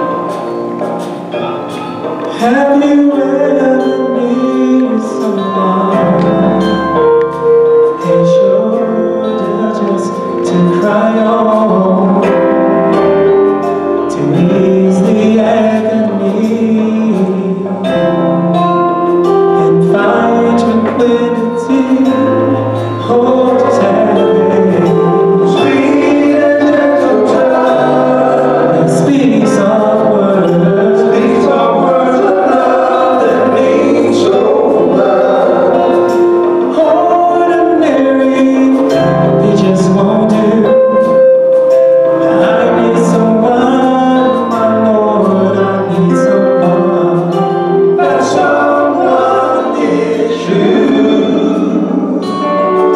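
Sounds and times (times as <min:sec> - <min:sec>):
instrumental accompaniment with bass: 0:00.0 - 0:52.9
male vocal group singing: 0:01.6 - 0:13.0, 0:14.0 - 0:18.5, 0:19.2 - 0:52.9.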